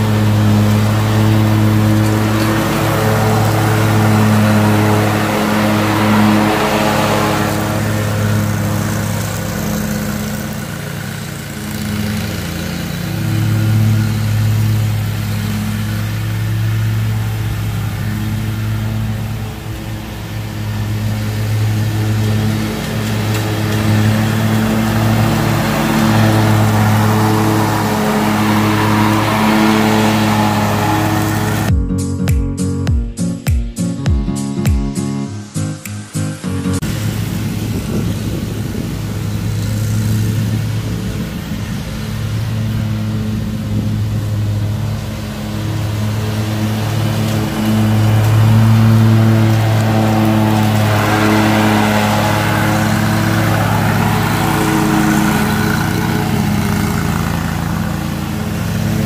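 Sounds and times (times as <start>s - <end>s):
small petrol engine running: 0.0s - 31.7s, 36.8s - 59.0s.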